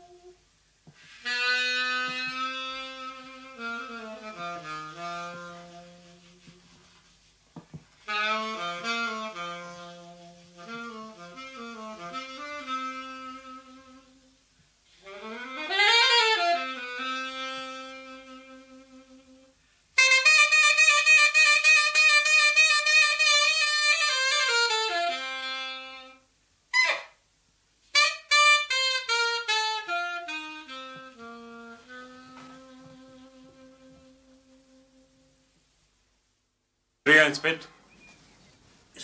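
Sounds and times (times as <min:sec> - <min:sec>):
solo saxophone melody: 0:00.0 - 0:00.4, 0:01.0 - 0:06.9, 0:08.0 - 0:27.2, 0:27.8 - 0:35.6.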